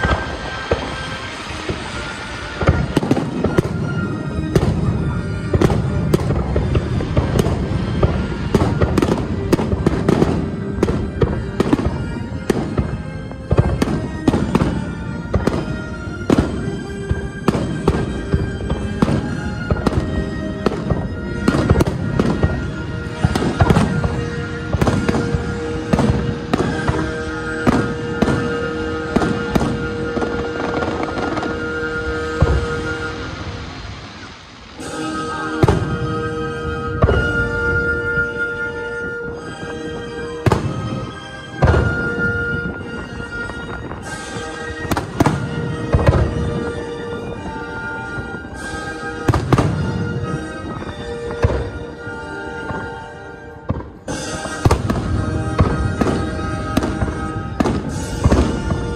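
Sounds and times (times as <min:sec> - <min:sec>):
fireworks bursting with bangs: 0:00.0 - 0:58.9
music playing: 0:00.0 - 0:58.9.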